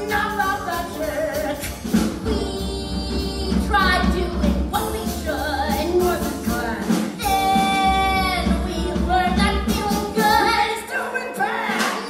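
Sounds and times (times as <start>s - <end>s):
band accompaniment: 0.0s - 12.0s
people singing: 0.0s - 12.0s.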